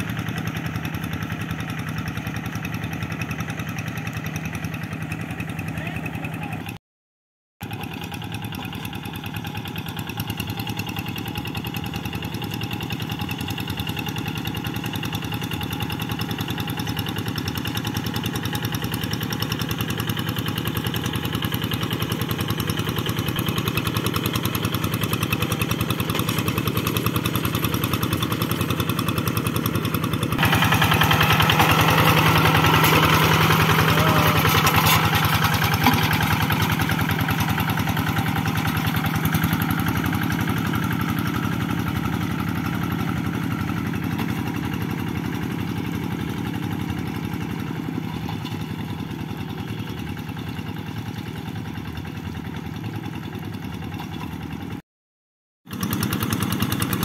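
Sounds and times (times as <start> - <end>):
diesel tractor engine chugging: 0.0 - 6.8, 7.6 - 54.8, 55.7 - 57.0.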